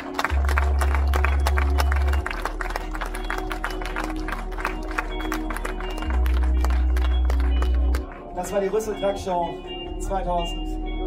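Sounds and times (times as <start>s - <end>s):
crowd hand claps: 0.0s - 9.2s
music over loudspeakers: 0.0s - 11.0s.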